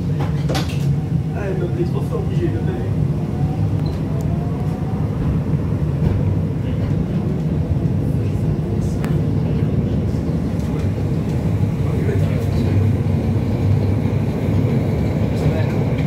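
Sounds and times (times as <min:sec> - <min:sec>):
tram wheels rumbling on track: 0:00.0 - 0:16.0.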